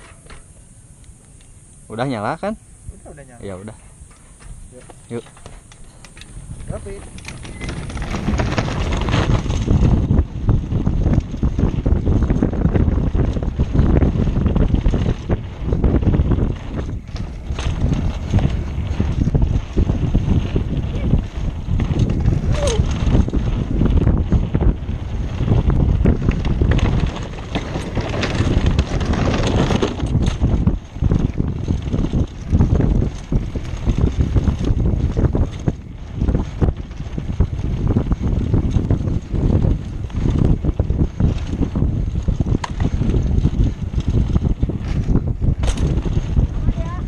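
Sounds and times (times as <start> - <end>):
bike clattering over rough ground: 0.0 - 0.6, 3.5 - 47.0
tyres rumbling on dirt trail: 0.0 - 47.0
wind rushing over microphone: 0.0 - 47.0.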